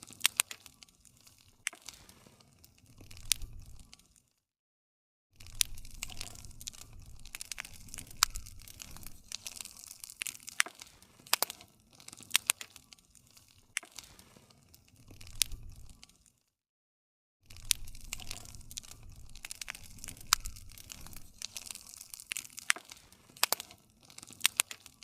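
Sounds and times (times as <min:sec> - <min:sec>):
wood campfire crackling: 0:00.0 - 0:04.3, 0:05.4 - 0:16.4, 0:17.5 - 0:25.0.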